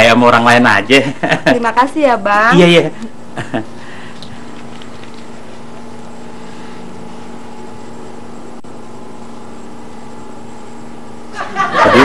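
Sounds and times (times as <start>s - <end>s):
steady droning hum: 0.0s - 12.0s.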